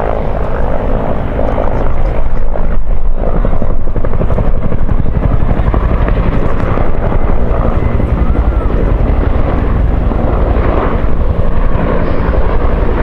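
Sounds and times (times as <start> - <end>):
helicopter rotors chopping: 0.0 - 13.0.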